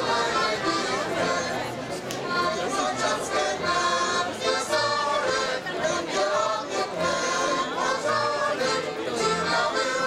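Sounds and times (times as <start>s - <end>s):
voices singing along: 0.0s - 1.7s, 2.3s - 10.0s
live folk dance music: 0.0s - 10.0s.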